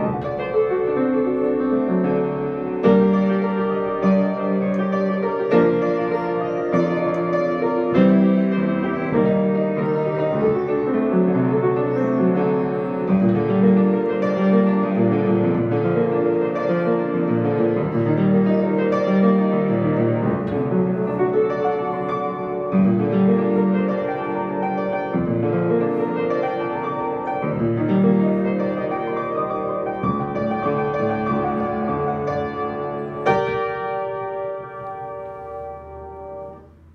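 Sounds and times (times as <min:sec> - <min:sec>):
solo piano playing: 0:00.0 - 0:36.9.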